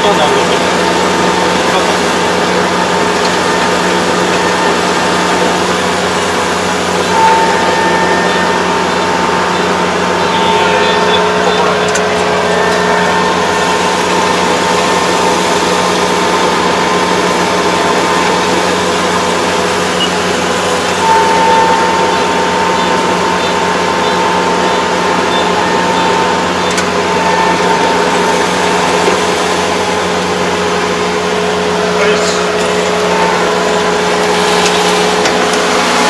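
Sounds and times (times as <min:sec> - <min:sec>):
combine harvester engine drone: 0:00.0 - 0:36.0.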